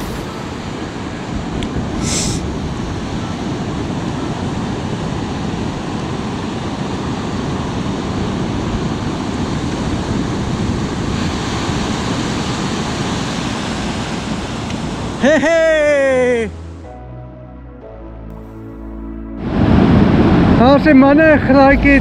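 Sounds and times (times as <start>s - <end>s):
wind rumbling on microphone: 0.0s - 15.2s, 19.4s - 22.0s
ocean surf breaking: 0.0s - 16.9s, 19.4s - 22.0s.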